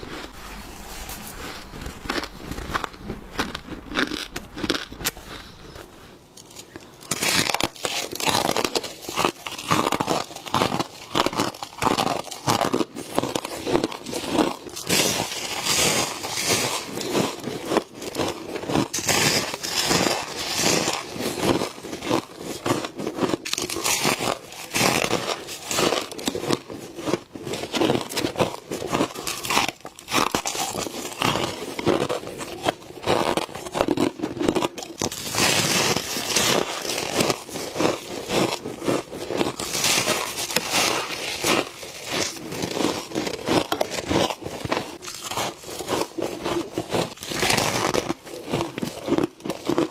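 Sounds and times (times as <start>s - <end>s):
chewing crunchy frost: 0.0s - 49.9s.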